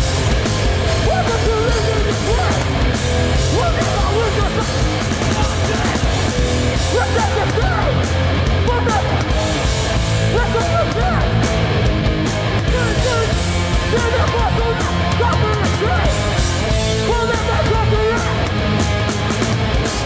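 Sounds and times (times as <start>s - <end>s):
punk band playing live: 0.0s - 20.0s.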